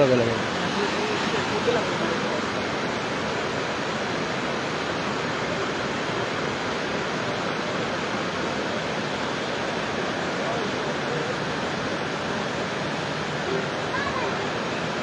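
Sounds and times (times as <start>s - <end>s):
floodwater roaring torrent: 0.0s - 15.0s.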